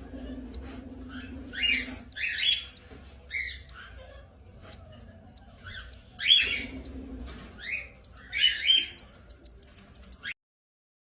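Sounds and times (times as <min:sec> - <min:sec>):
lovebirds squawking: 0:00.0 - 0:10.4.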